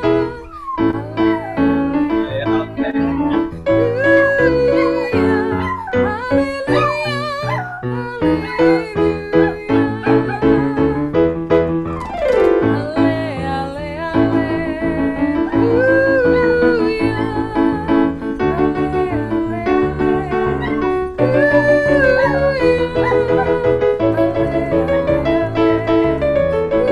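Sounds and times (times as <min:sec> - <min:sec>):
wavering wailing voice: 0:00.0 - 0:11.0, 0:15.2 - 0:17.9, 0:18.6 - 0:26.9
piano music: 0:00.0 - 0:26.9.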